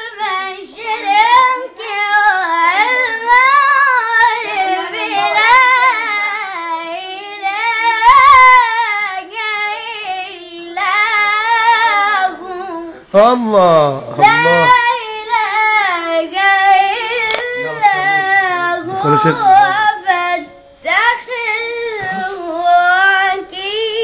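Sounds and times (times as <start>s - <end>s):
boy chanting recitation: 0.0s - 24.0s.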